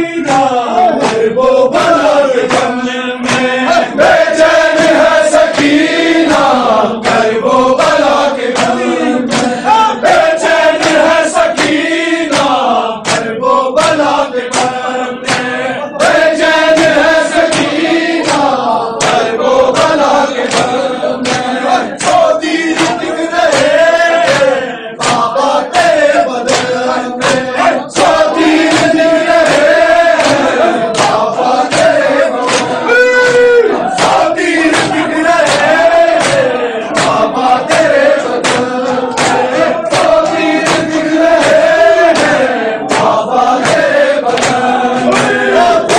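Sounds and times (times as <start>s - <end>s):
men chanting together: 0.0s - 45.9s
rhythmic chest slapping: 0.0s - 45.9s.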